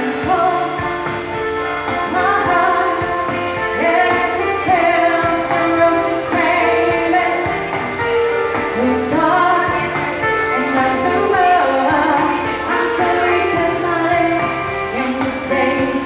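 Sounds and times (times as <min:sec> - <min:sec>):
instrumental accompaniment: 0:00.0 - 0:16.0
woman singing pop melody: 0:00.0 - 0:16.0.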